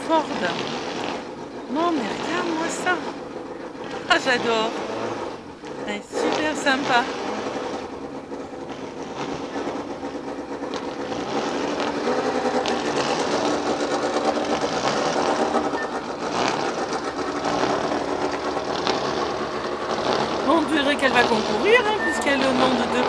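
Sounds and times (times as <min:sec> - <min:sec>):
engine running with clatter: 0:00.0 - 0:23.0.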